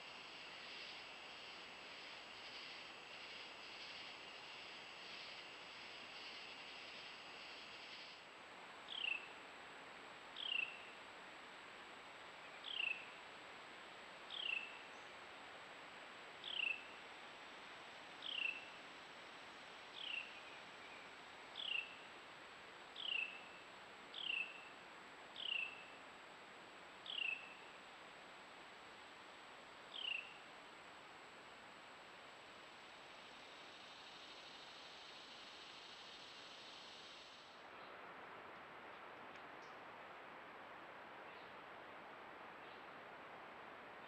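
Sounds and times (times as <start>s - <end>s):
faint background hiss: 0.0s - 44.0s.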